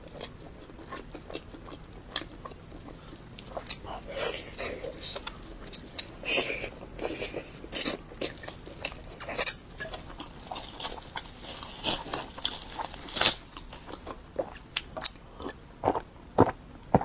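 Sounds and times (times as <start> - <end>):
chewing with wet mouth sounds: 0.0 - 17.0.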